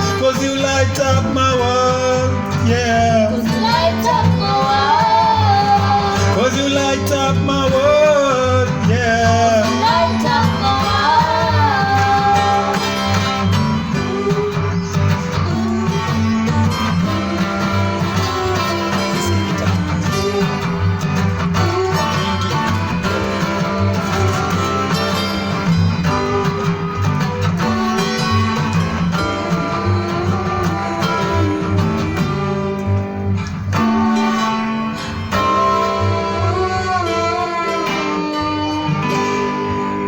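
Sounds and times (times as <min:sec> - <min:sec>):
plucked acoustic guitar: 0:00.0 - 0:40.0.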